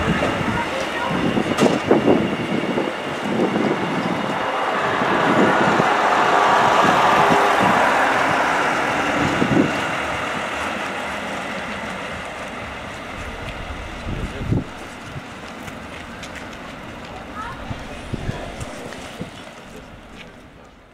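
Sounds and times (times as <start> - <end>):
diesel train passing: 0.0 - 20.9
train wheels rolling on rails: 0.0 - 20.9.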